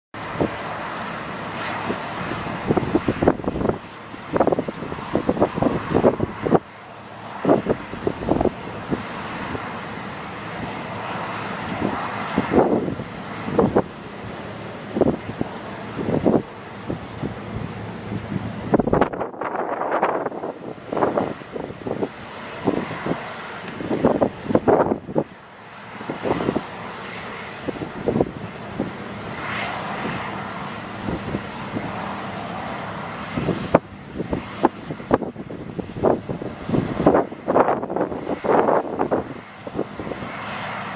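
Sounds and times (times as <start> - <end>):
farm machinery engines running: 0.2 - 40.9
wind noise on microphone: 0.2 - 40.9.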